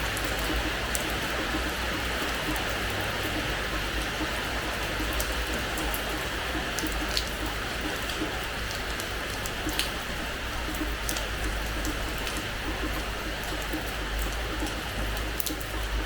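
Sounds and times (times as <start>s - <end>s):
rain on hard floor: 0.0s - 16.0s.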